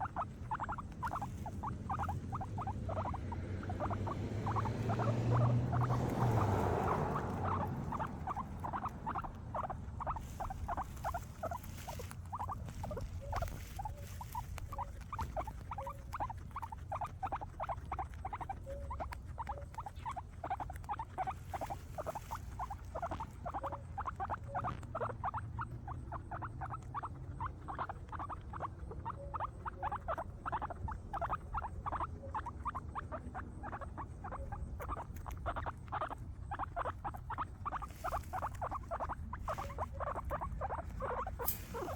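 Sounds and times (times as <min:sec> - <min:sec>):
guinea pigs chewing grass: 0:00.0 - 0:41.9.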